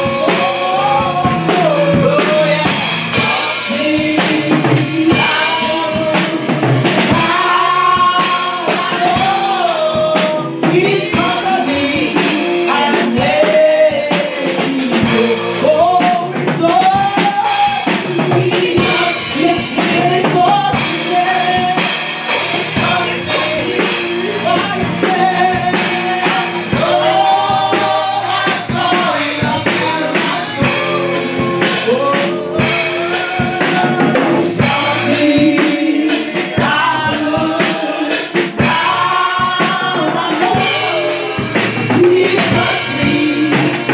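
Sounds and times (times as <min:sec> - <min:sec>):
drums: 0:00.0 - 0:43.9
women singing gospel: 0:00.0 - 0:43.9.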